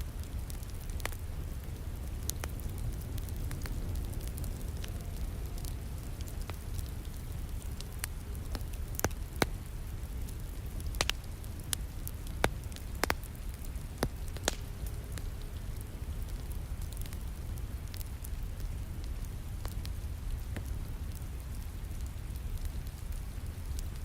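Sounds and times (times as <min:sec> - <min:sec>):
rain: 0:00.0 - 0:24.0
wood fire crackling: 0:00.0 - 0:24.0.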